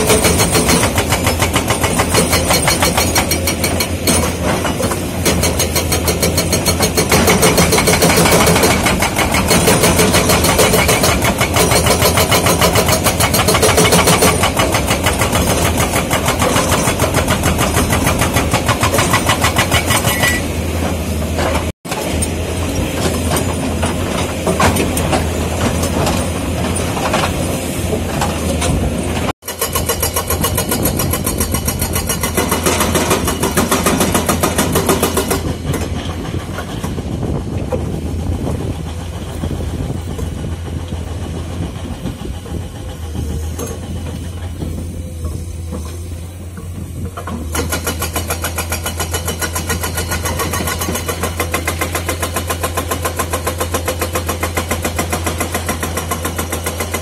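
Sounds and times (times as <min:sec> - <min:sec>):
diesel engine running: 0:00.0 - 0:29.4, 0:30.2 - 0:57.0
hydraulic breaker hammering rock: 0:00.0 - 0:57.0.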